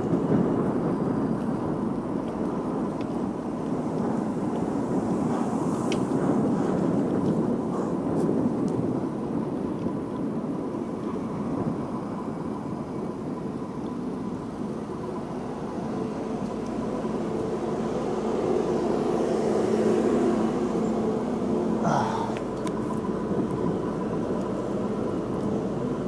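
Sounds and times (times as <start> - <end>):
bike tyres rolling on pavement: 0.0 - 26.0
city traffic: 0.0 - 26.0
wind noise: 0.0 - 26.0.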